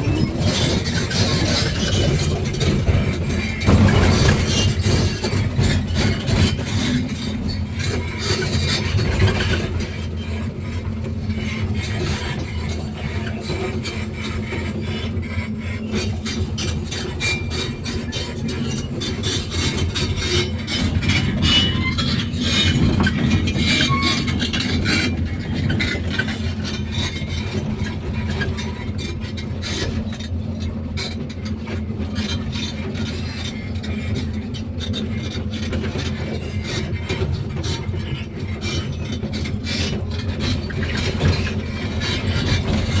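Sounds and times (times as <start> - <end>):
excavator diesel engine hum: 0.0 - 43.0
rapid metallic rattling and clanking: 0.0 - 43.0.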